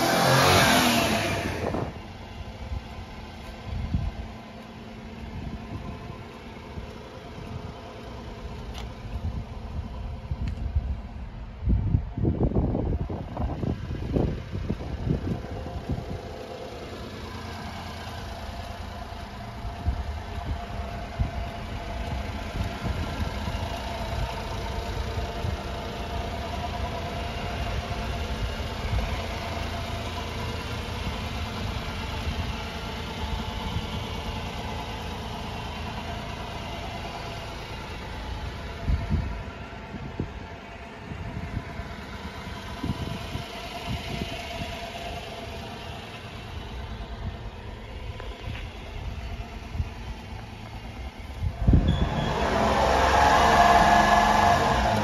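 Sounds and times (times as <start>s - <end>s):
small truck engine idling: 1.4s - 53.2s.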